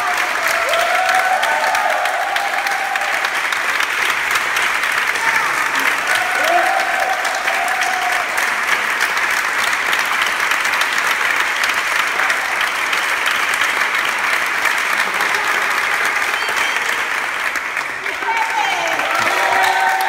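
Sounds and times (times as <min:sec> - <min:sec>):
crowd clapping: 0:00.0 - 0:20.0.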